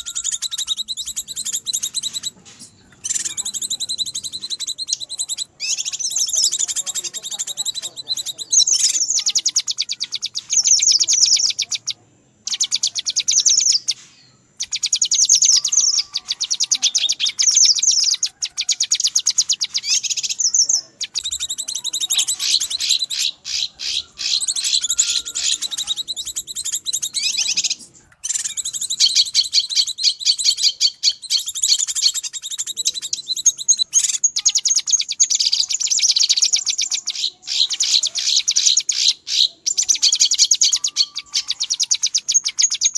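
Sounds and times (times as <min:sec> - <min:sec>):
bird chattering trills: 0:00.0 - 0:42.9.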